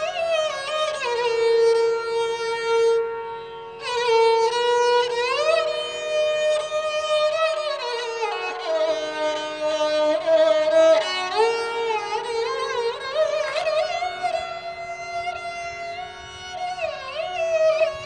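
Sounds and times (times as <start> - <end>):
bowed string solo melody: 0.0 - 18.0.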